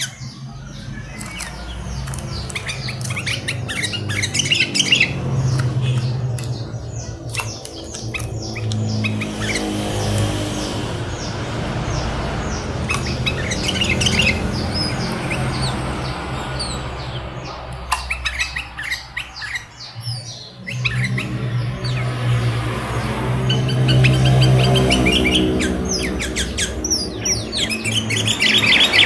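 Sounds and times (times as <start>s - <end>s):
birds chirping and calling: 0.0s - 29.0s
steady low hum: 0.0s - 29.0s.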